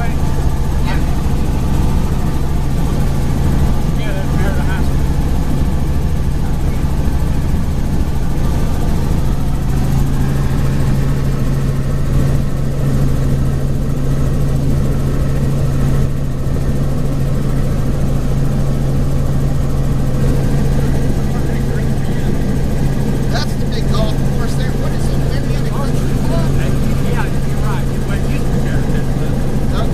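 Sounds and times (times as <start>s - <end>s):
helicopter engine and rotor drone: 0.0s - 29.9s.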